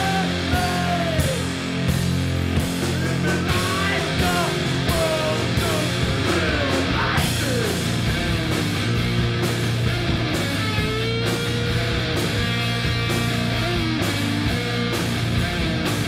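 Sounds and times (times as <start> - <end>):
gliding lead guitar line: 0.0 - 16.0
rock song with heavy bass and drums: 0.0 - 16.0.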